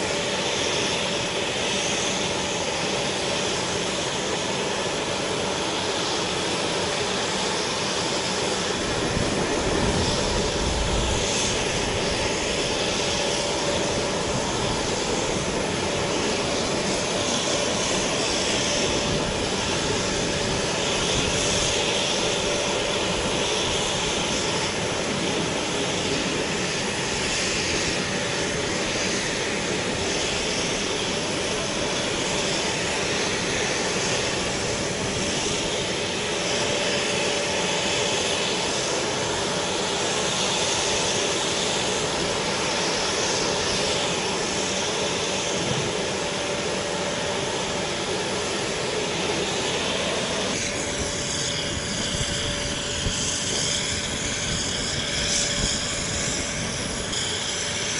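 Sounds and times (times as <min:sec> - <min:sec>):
aircraft engines running: 0:00.0 - 0:57.9.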